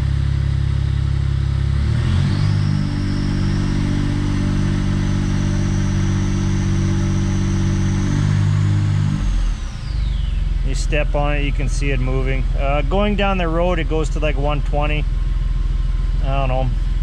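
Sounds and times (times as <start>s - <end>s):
car engine revving: 0.0s - 17.0s
high whine: 2.1s - 17.0s.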